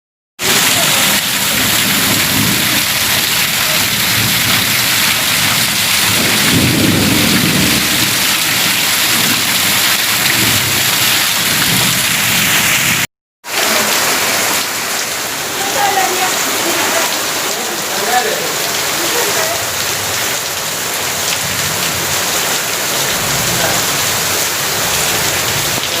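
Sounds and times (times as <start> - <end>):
heavy rain pouring: 0.4 - 26.0.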